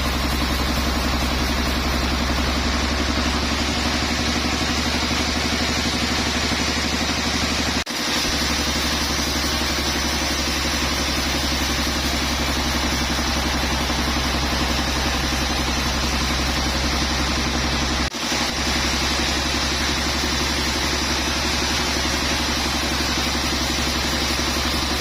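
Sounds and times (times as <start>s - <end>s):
engine running with pulsing hum: 0.0s - 25.0s.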